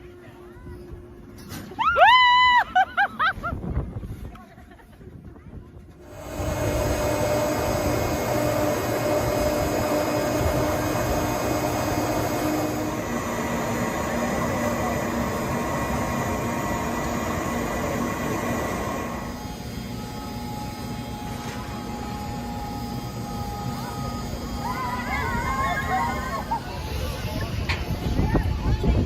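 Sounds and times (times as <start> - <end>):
machine noise with humming tones: 0.0 - 29.0.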